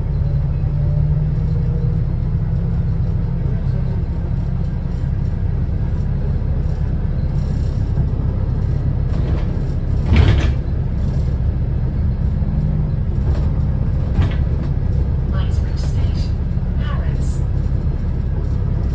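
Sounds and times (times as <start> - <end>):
bus engine low rumble: 0.0 - 18.9.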